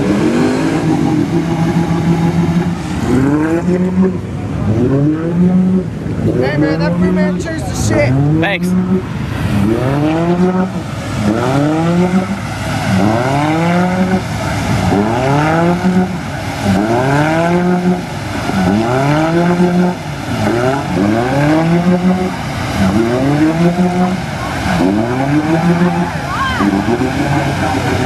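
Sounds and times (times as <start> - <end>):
engine revving hard: 0.0 - 28.0.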